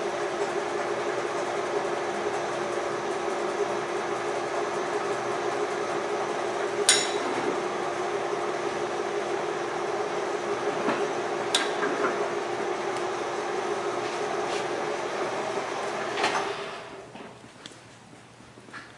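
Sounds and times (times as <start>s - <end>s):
lathe humming: 0.0s - 17.1s.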